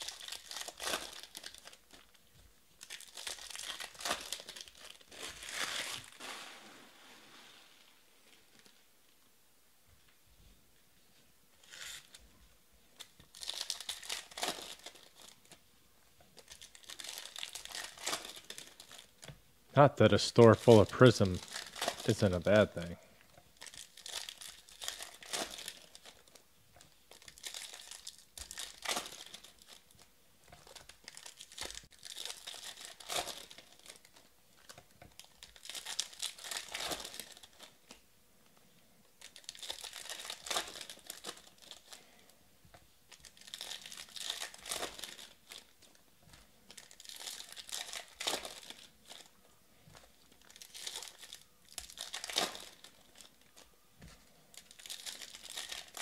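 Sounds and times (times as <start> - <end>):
foil wrappers crinkling and tearing: 0.0 - 6.8, 11.6 - 12.2, 13.0 - 15.6, 16.3 - 19.3, 20.1 - 38.0, 39.0 - 42.4, 43.0 - 56.0.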